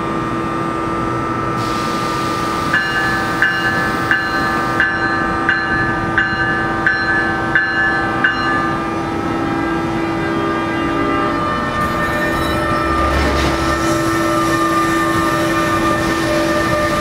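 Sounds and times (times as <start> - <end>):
locomotive electric hum: 0.0 - 17.0
locomotive bell ringing: 2.7 - 17.0.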